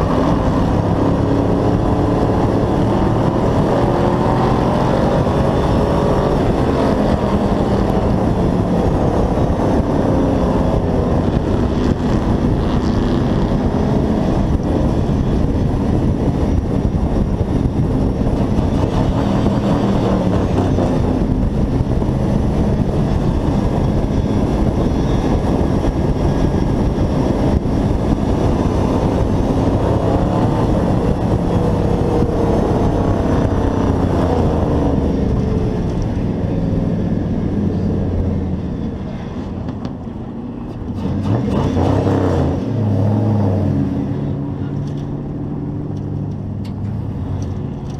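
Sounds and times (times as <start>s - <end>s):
race truck engine revving: 0.0s - 39.4s, 40.8s - 46.6s
heavy wind noise: 0.0s - 47.9s
road noise: 0.0s - 47.9s.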